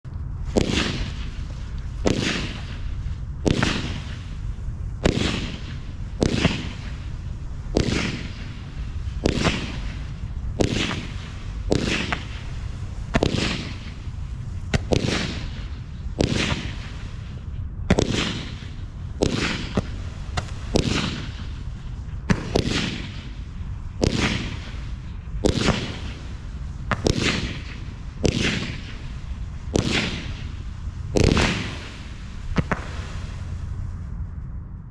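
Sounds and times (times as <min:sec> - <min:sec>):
firework cake bangs: 0:00.5 - 0:04.2, 0:05.0 - 0:08.6, 0:09.2 - 0:14.0, 0:14.7 - 0:17.1, 0:17.9 - 0:23.4, 0:24.0 - 0:33.2.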